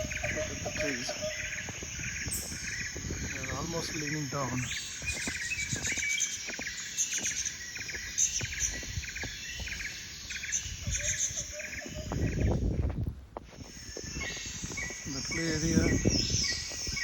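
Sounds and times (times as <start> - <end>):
small birds chirping: 0.0 - 12.8, 13.5 - 17.0.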